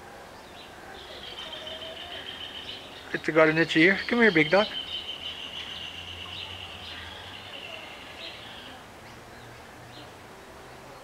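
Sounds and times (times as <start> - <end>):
faint bird chirps: 0.3 - 10.1.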